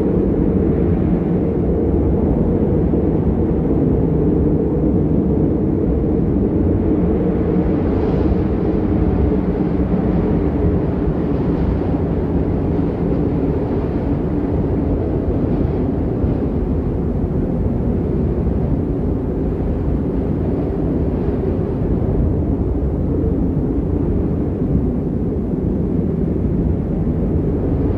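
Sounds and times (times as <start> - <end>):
low rumbling ambience: 0.0 - 27.9.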